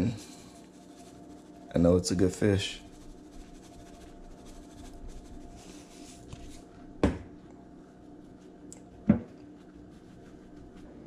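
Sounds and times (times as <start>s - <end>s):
seasoning shaker shaking: 0.0s - 6.7s, 7.7s - 11.0s
low steady hum: 0.0s - 11.0s.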